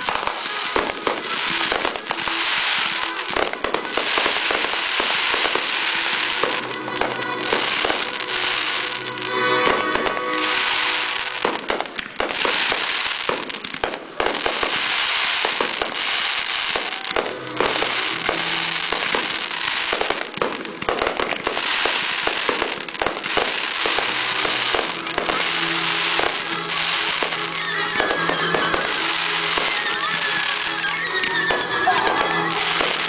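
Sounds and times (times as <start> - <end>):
fireworks crackling: 0.0 - 33.0
fireworks shells bursting: 0.0 - 33.0.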